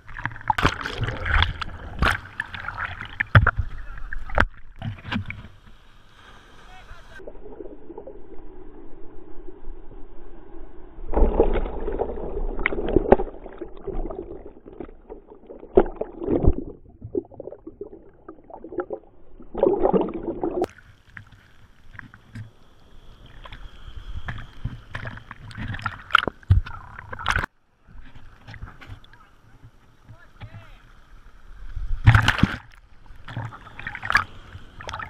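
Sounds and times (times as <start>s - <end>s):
muffled underwater rushing water: 0.0s - 35.0s.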